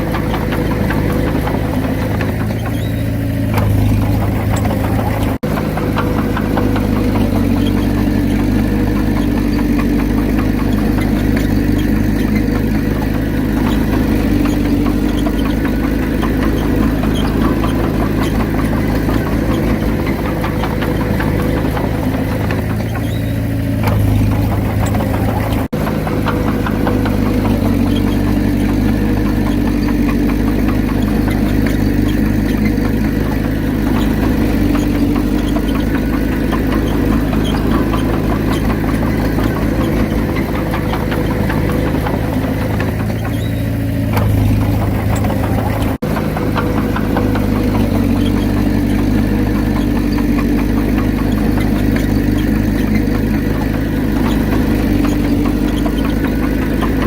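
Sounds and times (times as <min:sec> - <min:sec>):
heavy machinery diesel engine running: 0:00.0 - 0:57.0.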